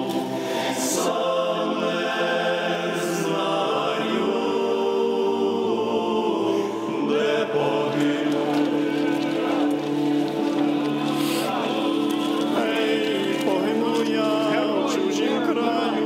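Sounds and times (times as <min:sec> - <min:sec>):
choir singing a slow chant: 0:00.0 - 0:16.0.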